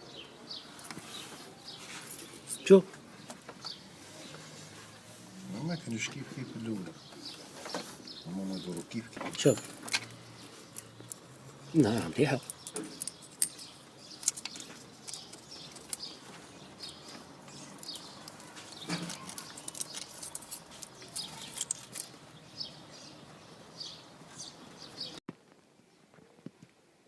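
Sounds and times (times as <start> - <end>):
faint background noise: 0.0 - 27.0.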